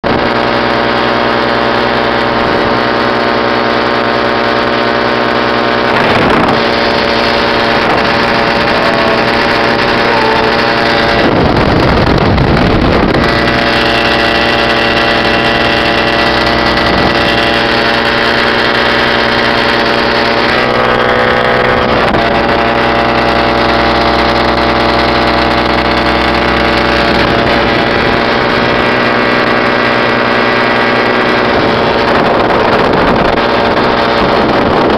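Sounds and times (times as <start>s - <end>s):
paramotor engine running: 0.0s - 34.9s
wind buffeting microphone: 5.4s - 34.9s.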